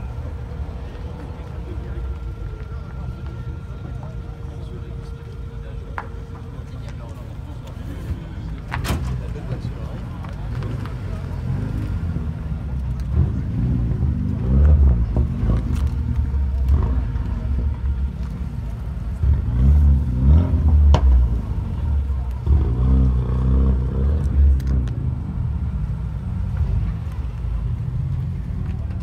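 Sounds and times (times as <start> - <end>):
car engine rumbling and revving: 0.0 - 29.0.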